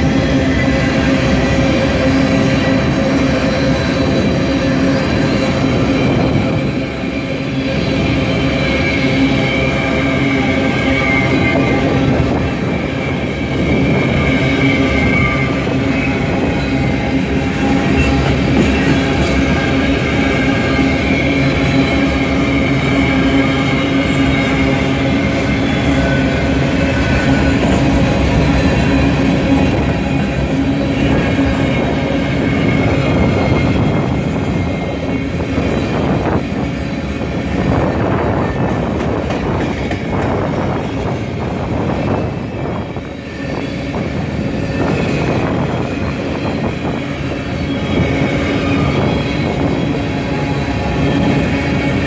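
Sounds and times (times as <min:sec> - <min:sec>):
rumble of steel wheels on rails: 0:00.0 - 0:52.0.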